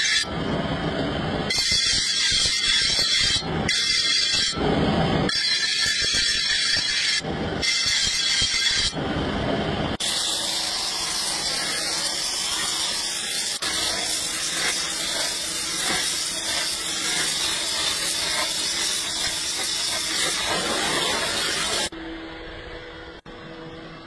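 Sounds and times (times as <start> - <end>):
steel grinding on grinding wheel: 0.0 - 0.3, 1.2 - 9.1, 10.0 - 21.9
gas torch flame hissing: 0.0 - 21.9.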